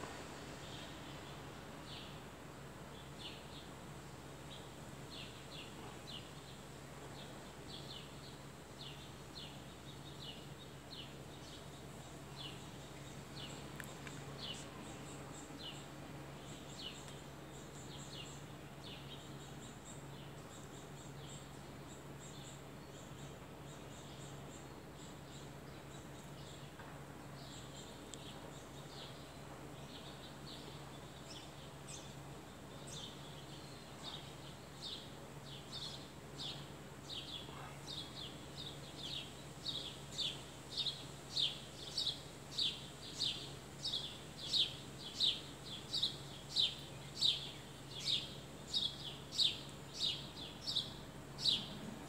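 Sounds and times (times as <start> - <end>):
faint low steady hum: 0.0 - 52.0
songbirds chirping: 0.0 - 52.0.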